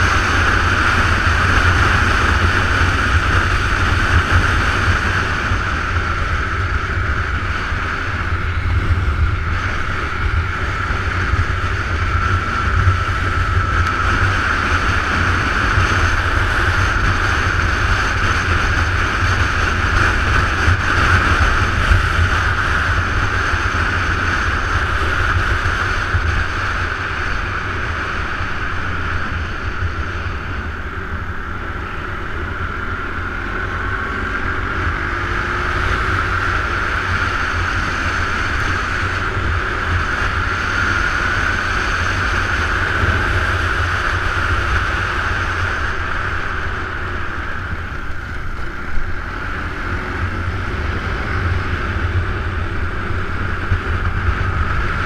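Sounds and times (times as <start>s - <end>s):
scooter engine drone: 0.0s - 55.0s.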